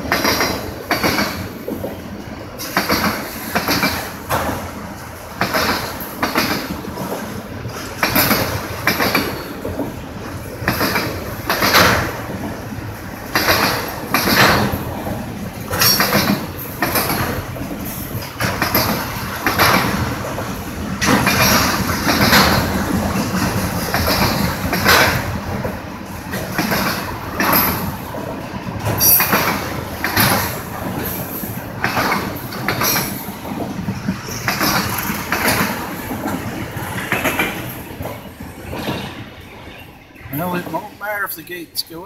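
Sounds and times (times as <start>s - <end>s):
train wheels clacking on rail joints: 0.0s - 39.8s
train rumble: 0.0s - 42.0s.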